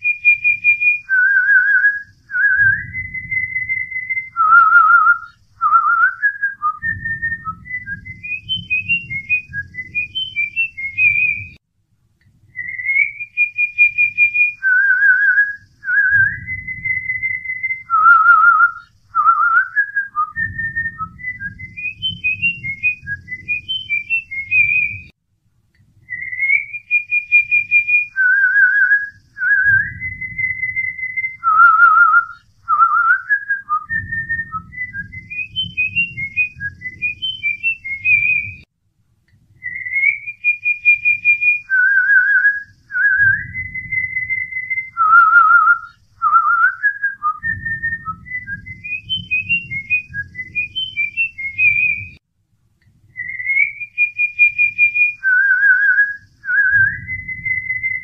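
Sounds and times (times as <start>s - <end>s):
whistled melody: 0.0s - 11.6s, 12.5s - 25.1s, 26.0s - 38.7s, 39.6s - 52.2s, 53.1s - 58.0s
soft low pulsing accompaniment: 0.0s - 26.7s, 27.3s - 40.2s, 41.0s - 52.2s, 55.3s - 58.0s.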